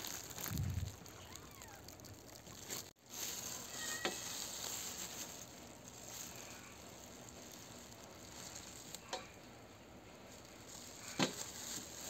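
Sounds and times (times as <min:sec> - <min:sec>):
crackly glove handling noise: 0:00.0 - 0:09.5, 0:10.2 - 0:12.0.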